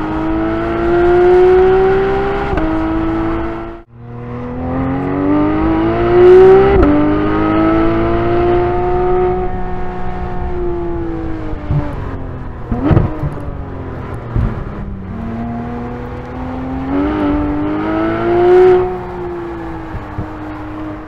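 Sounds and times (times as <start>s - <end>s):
sports car engine accelerating: 0.0s - 21.0s.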